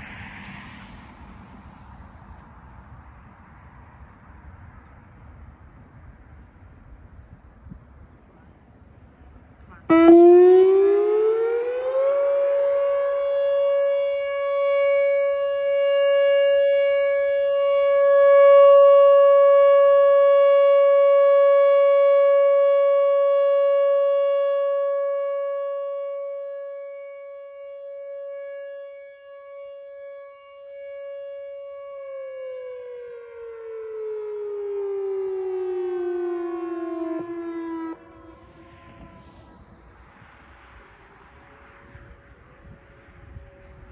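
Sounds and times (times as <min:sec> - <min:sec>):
rotating warning siren: 0:00.0 - 0:43.9.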